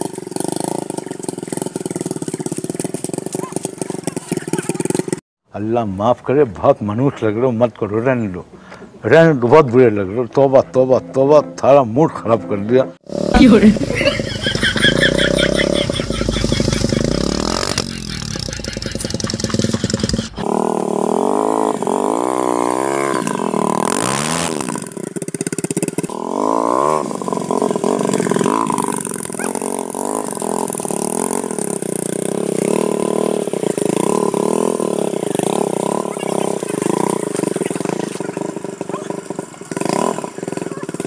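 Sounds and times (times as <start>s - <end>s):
motorcycle engine revving: 0.0s - 5.2s, 13.0s - 41.0s.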